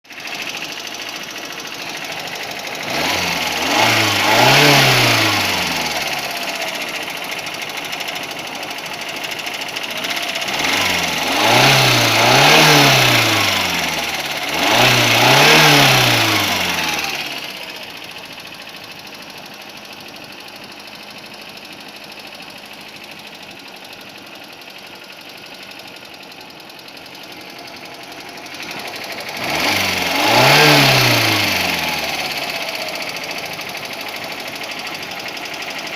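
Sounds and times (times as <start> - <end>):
car engine revving and idling: 0.1 - 35.9
engine knock: 0.1 - 35.9.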